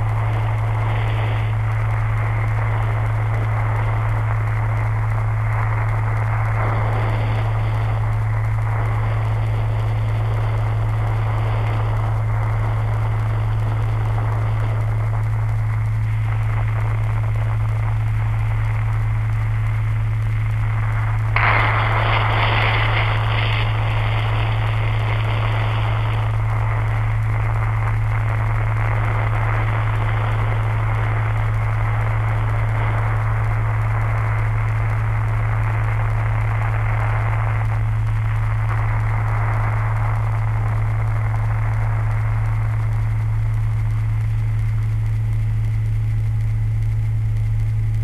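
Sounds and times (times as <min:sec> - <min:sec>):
loud low hum: 0:00.0 - 0:48.0
loud rush of noise: 0:00.0 - 0:48.0
static hiss: 0:00.0 - 0:48.0.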